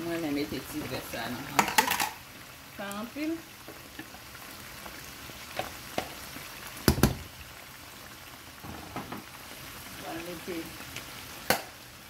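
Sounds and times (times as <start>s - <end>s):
stew bubbling in a pan: 0.0s - 12.0s.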